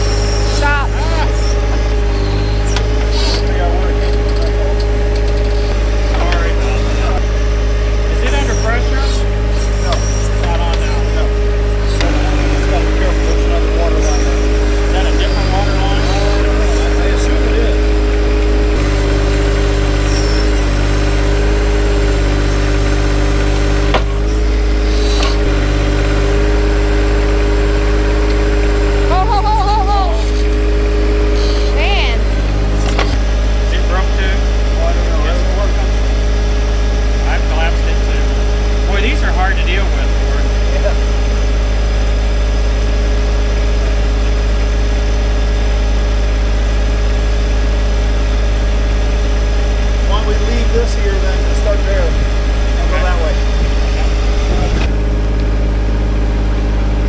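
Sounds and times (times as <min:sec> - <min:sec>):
steady whine: 0:00.0 - 0:57.0
tractor diesel engine running: 0:00.0 - 0:57.0.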